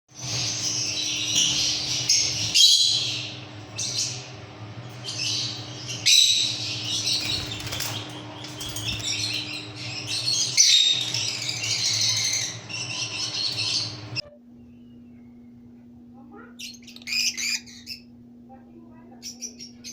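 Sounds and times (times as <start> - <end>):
lovebirds chattering: 0.1 - 14.2, 16.3 - 18.1, 19.1 - 19.9
low steady hum: 0.2 - 19.9.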